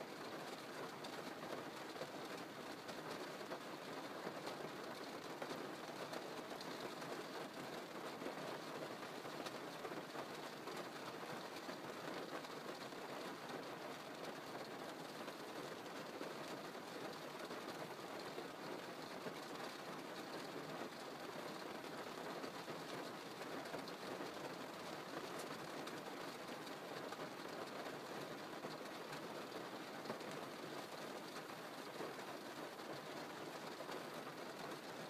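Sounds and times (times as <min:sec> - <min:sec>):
rain drumming on car roof: 0:00.0 - 0:35.0.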